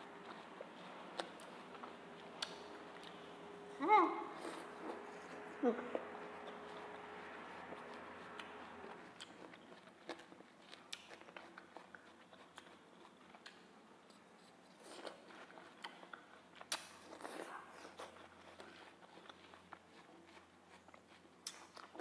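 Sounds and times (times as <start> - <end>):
watermelon chewing crunches: 0.0 - 3.2, 4.4 - 22.0.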